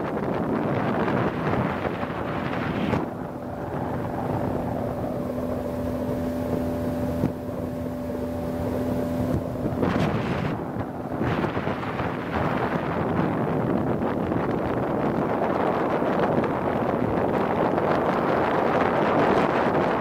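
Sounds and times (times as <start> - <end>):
motorboat engine running: 0.0 - 20.0
wind buffeting microphone: 0.0 - 20.0.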